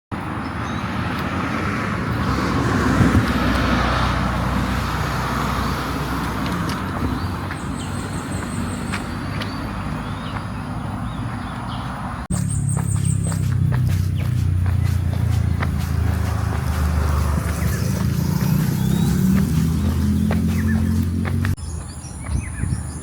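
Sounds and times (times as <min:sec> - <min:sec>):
steady traffic rumble: 0:00.1 - 0:23.0
vehicle passing: 0:00.2 - 0:21.9.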